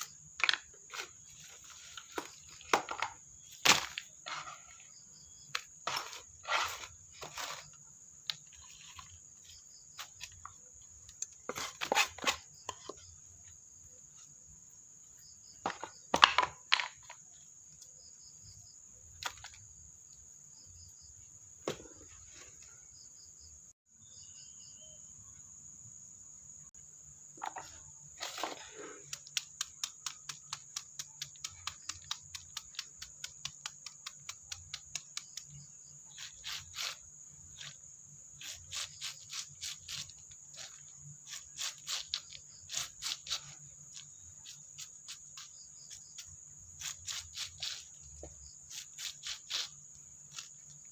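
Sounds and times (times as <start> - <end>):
crickets chirring: 0.0 - 50.9.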